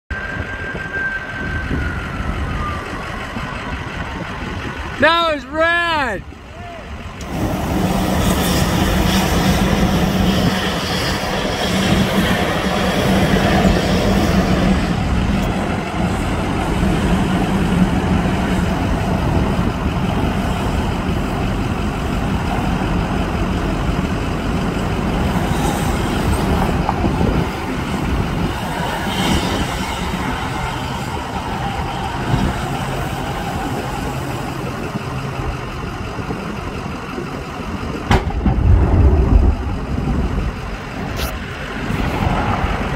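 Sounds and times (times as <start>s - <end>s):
truck and highway traffic rumble: 0.1s - 42.9s.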